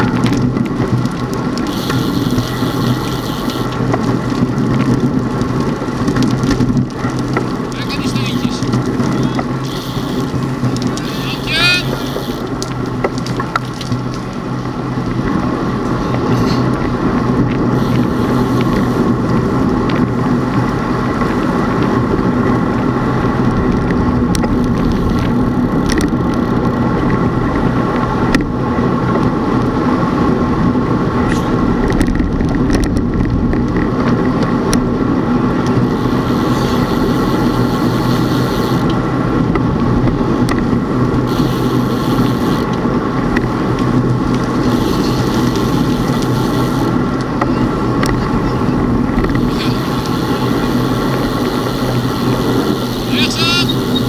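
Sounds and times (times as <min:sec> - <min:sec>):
road travel noise: 0:00.0 - 0:54.0.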